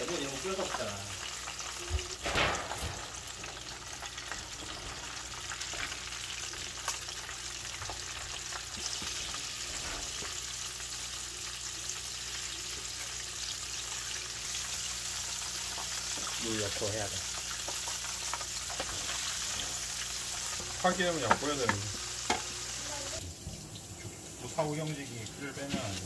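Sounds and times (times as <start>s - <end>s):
fish deep-frying in oil: 0.0s - 26.0s.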